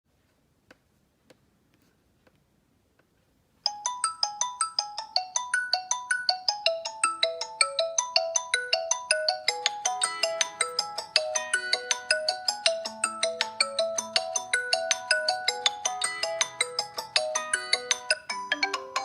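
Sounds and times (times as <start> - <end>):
phone ringtone melody: 3.7 - 19.0.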